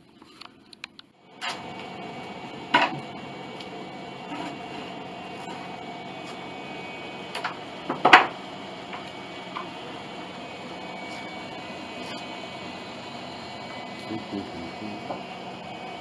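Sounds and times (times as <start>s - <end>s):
shop background hum: 0.0s - 16.0s.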